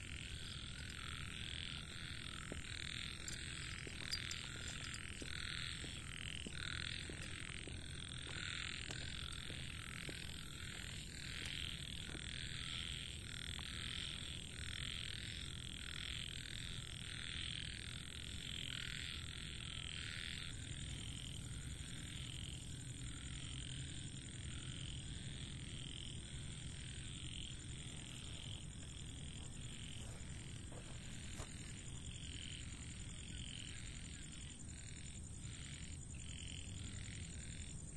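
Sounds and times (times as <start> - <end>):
frogs croaking: 0.0 - 37.9.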